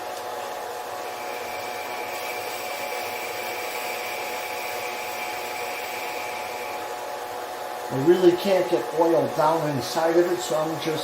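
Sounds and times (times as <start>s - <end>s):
lathe motor whine: 0.0s - 11.0s.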